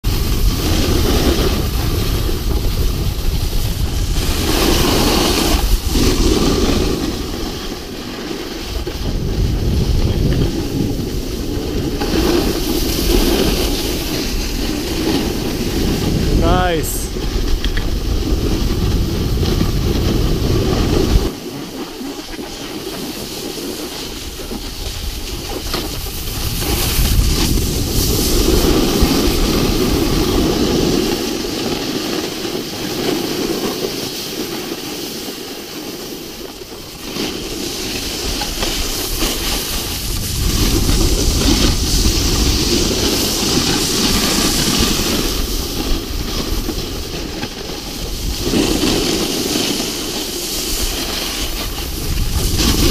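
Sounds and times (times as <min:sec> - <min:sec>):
wind buffeting microphone: 0:00.0 - 0:33.7, 0:36.3 - 0:52.9
skis sliding on packed snow: 0:00.1 - 0:52.9.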